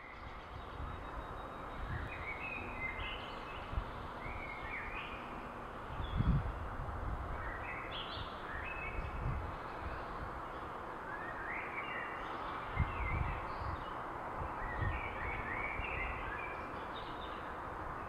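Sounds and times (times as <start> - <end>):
small birds chirping: 0.0 - 6.7, 7.4 - 17.7.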